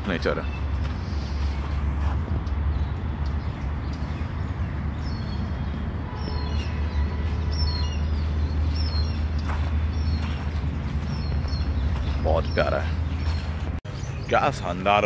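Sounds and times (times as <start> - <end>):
steady low rumble: 0.0 - 14.0
small birds chirping: 0.0 - 15.0.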